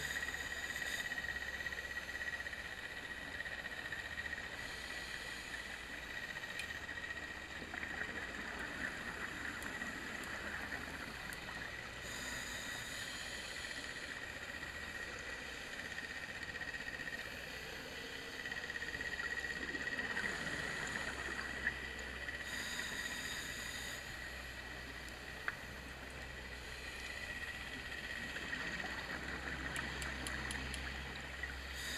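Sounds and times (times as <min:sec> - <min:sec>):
steady high whine: 0:00.0 - 0:31.9
underwater hiss: 0:00.0 - 0:31.9
faint clicks: 0:00.2 - 0:17.4, 0:18.4 - 0:31.9.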